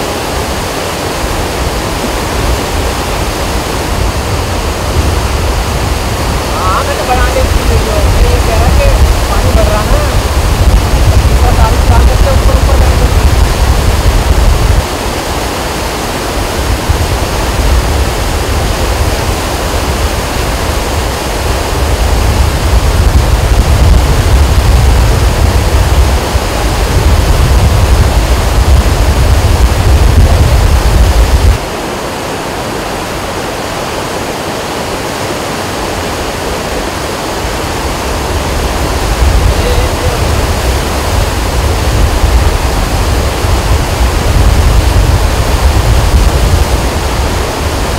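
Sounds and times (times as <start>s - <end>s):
river rushing: 0.0s - 47.9s
heavy low rumble: 1.2s - 34.0s, 36.2s - 47.9s.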